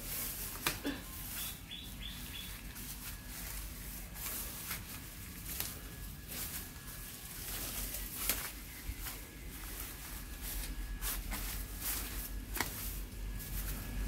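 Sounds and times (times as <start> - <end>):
faint background noise: 0.0 - 14.0
footsteps walking: 0.0 - 14.0.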